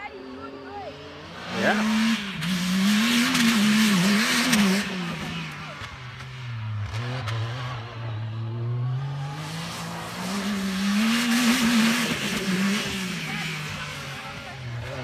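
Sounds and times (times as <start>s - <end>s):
distant engine revving: 0.0s - 15.0s.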